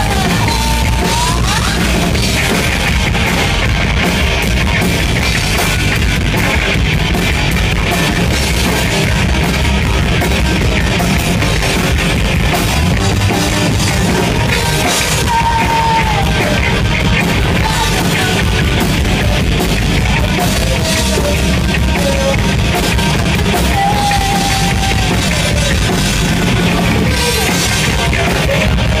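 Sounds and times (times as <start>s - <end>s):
rock band playing loud: 0.0s - 29.0s.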